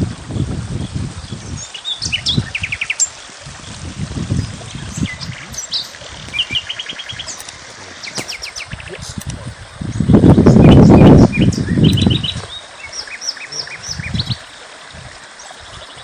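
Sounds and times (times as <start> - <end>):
songbirds chirping: 0.8 - 16.0.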